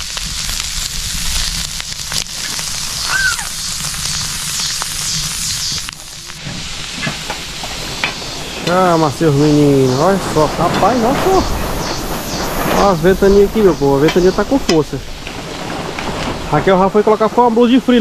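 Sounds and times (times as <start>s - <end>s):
food frying and sizzling: 0.0s - 18.0s
wind rumbling on microphone: 0.0s - 18.0s.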